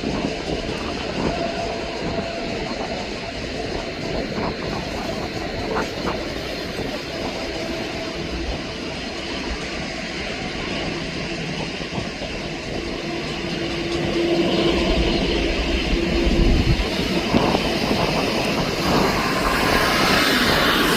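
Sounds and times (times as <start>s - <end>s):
jet engines rumbling: 0.0s - 20.9s.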